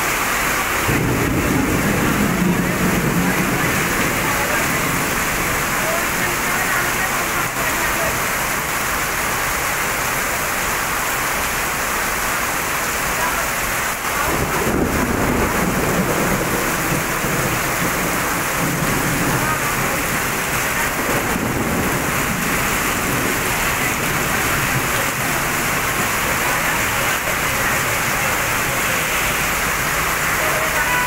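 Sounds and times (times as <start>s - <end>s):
heavy rain pouring on road: 0.0s - 31.0s.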